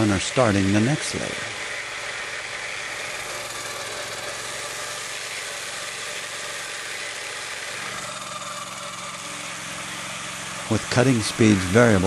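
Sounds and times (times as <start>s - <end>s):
circular blades cutting wood: 0.0s - 12.0s
gas engine running: 0.0s - 12.0s.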